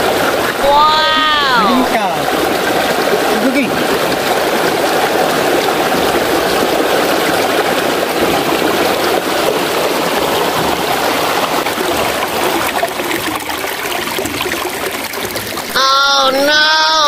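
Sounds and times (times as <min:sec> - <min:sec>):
water rushing at a dam: 0:00.0 - 0:17.0.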